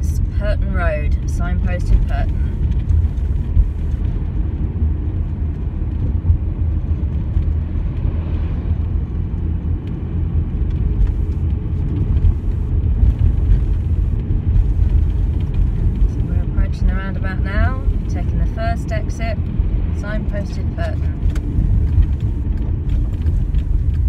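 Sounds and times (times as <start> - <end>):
car engine and tyre noise: 0.0 - 24.0.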